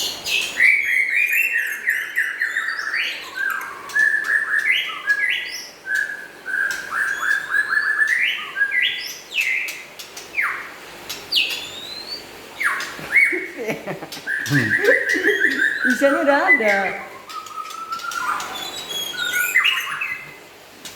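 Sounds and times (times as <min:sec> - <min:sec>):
songbird singing: 0:00.0 - 0:20.4.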